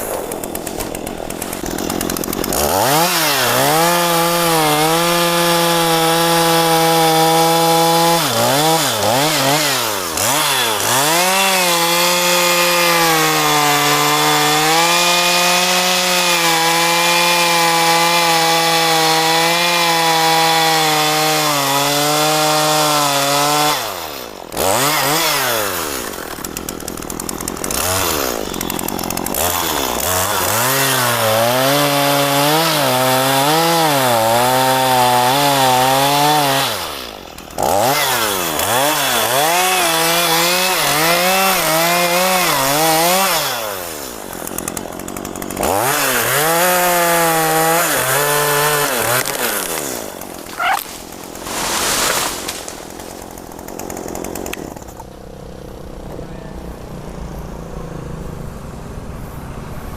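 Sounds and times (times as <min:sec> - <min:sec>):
chainsaw cutting wood: 0:00.0 - 0:56.2.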